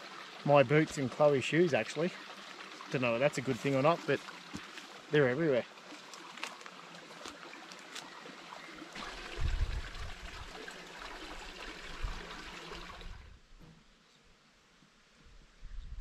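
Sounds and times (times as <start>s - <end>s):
creek trickling over rocks: 0.0s - 13.4s.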